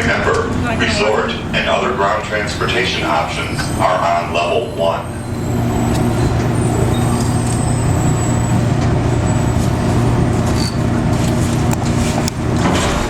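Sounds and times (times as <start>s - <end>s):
tram motors and wheels rumbling: 0.0s - 13.0s.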